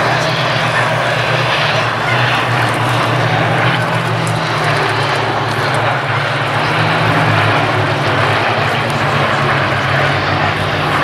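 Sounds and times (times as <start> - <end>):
propeller planes flying past: 0.0 - 11.0.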